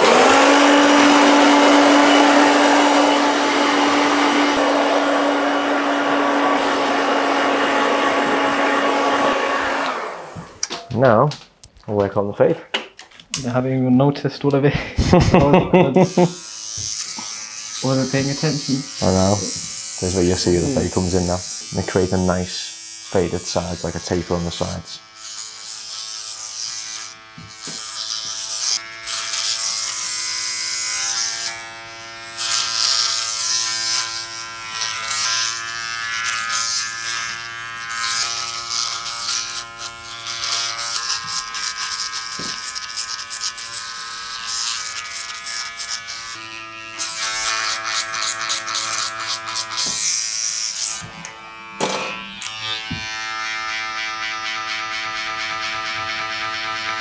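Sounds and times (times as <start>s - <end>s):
electric hair clippers buzzing: 0.0s - 11.0s, 14.8s - 57.0s.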